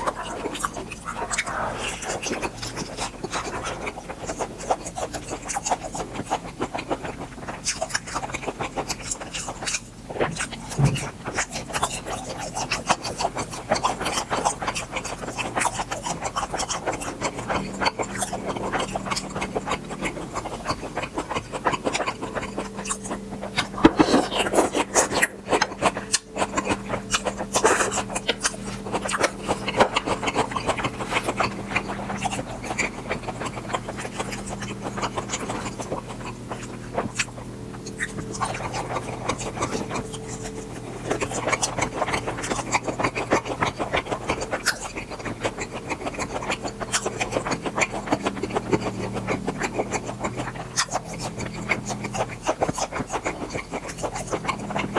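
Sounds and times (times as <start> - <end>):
close-up chewing sounds: 0.0 - 54.9
faint steady hum: 0.0 - 54.9.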